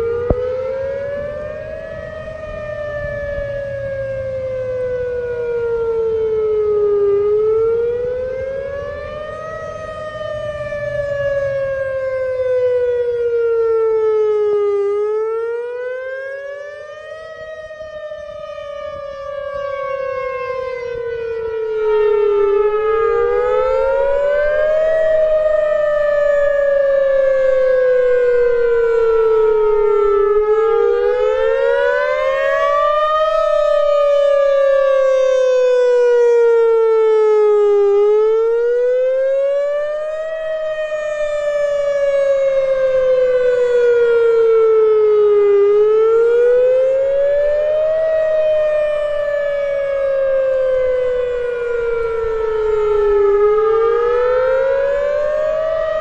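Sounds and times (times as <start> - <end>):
warning siren wailing: 0.0 - 56.0.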